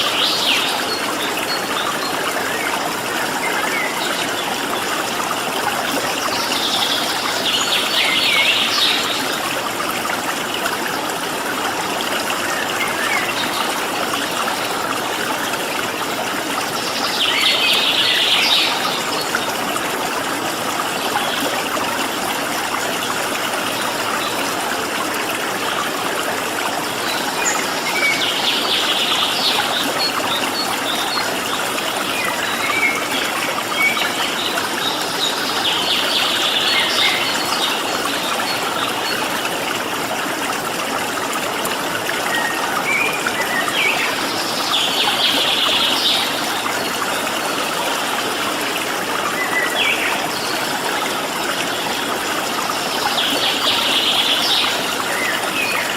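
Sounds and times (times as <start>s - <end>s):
stream trickling: 0.0s - 55.9s.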